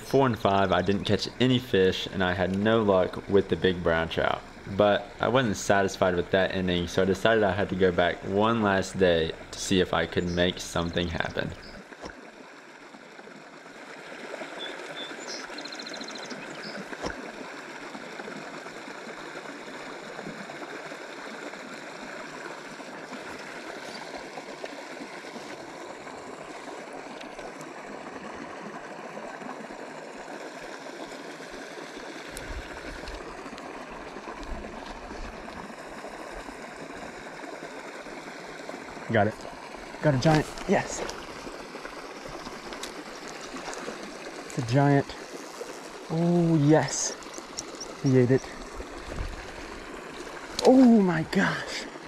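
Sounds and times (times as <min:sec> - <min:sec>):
creek water flowing: 0:00.0 - 0:52.0.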